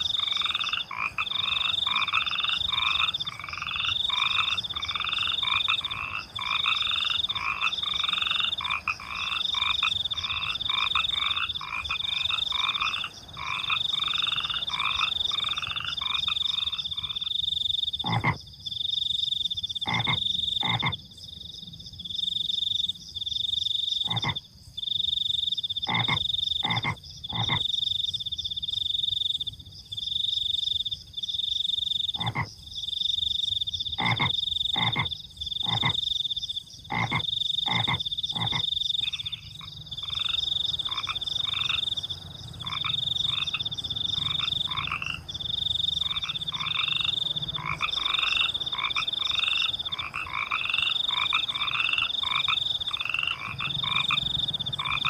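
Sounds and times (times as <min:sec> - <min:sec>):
pulsed frog chorus: 0:00.0 - 0:21.2, 0:22.0 - 0:55.0
frogs croaking: 0:00.0 - 0:55.0.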